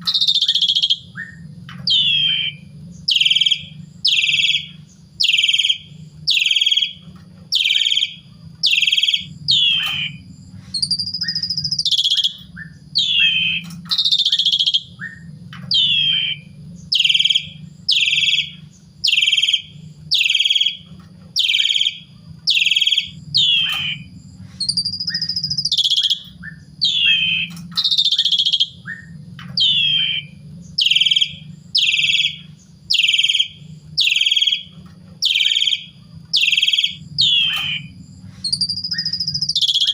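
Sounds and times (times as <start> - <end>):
low steady hum: 0.0 - 39.9
starling calls: 0.0 - 39.9
high whistled bird phrases: 0.1 - 39.9.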